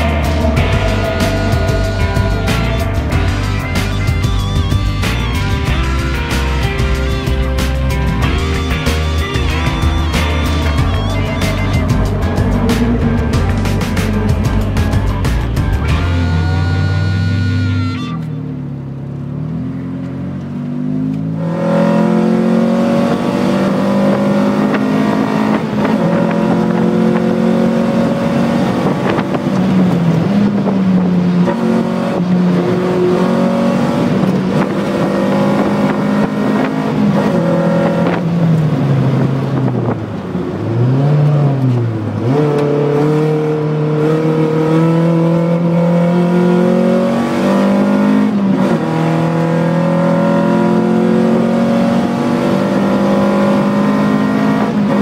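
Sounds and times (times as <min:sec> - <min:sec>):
car engine accelerating through gears: 0:00.0 - 0:17.9, 0:18.7 - 0:55.0.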